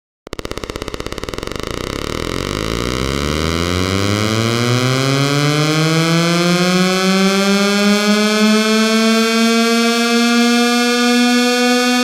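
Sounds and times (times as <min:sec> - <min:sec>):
electronic siren pulses: 0:00.3 - 0:12.0.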